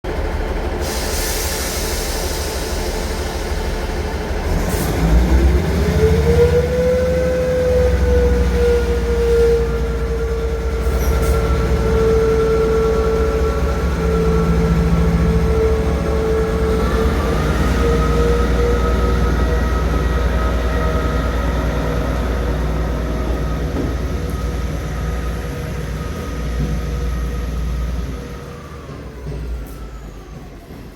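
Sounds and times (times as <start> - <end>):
train engine howl: 0.1 - 30.9
low engine rumble: 3.4 - 30.8.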